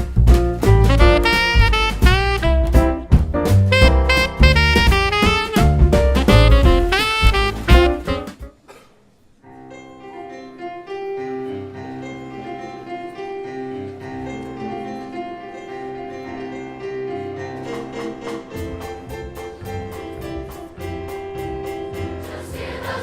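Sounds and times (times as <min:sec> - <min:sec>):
piano chords: 0:00.0 - 0:08.6, 0:09.4 - 0:23.0.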